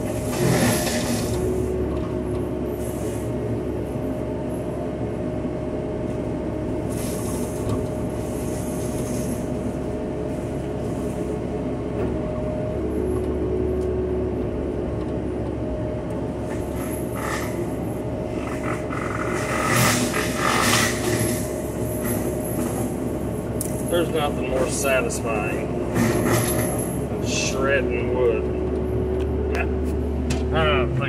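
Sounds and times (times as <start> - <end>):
excavator engine drone with whine: 0.0 - 31.0.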